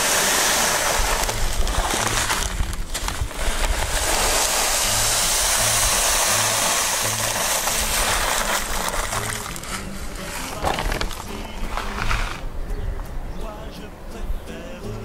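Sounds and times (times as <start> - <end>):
cat litter pouring into plastic tray: 0.0 - 12.4
background music: 0.0 - 15.0.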